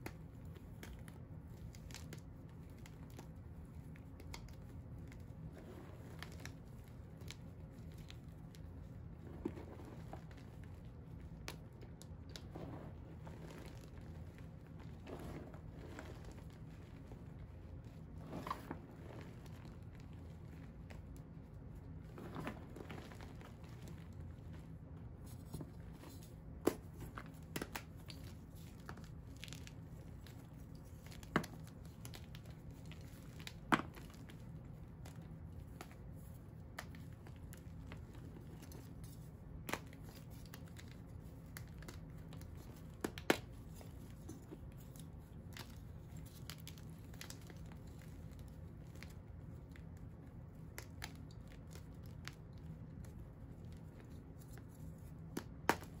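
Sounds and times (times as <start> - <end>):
crunching and crumbling blocks: 0.0 - 56.0
faint low hum: 0.0 - 56.0.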